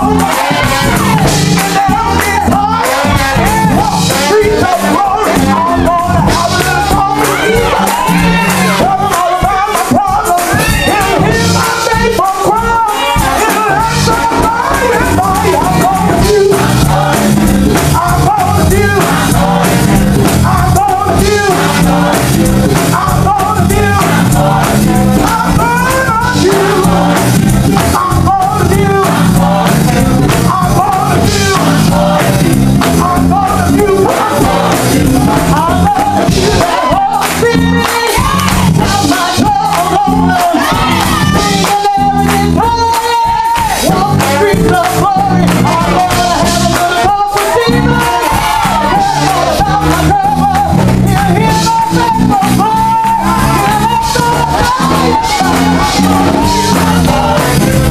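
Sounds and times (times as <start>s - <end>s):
choir singing: 0.0s - 9.5s, 10.5s - 41.6s, 45.2s - 50.5s, 52.6s - 57.9s
instrumental backing with bass: 0.0s - 57.9s
lead singer on microphone: 0.0s - 57.9s
hand clapping: 0.2s - 3.4s, 4.1s - 12.6s, 13.4s - 57.8s.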